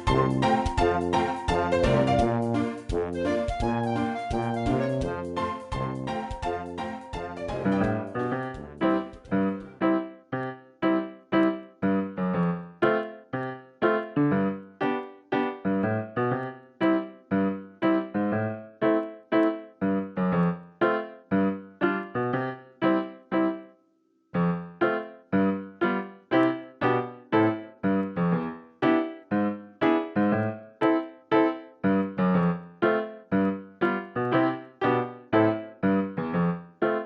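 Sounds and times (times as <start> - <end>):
piano tune: 0.0 - 37.0.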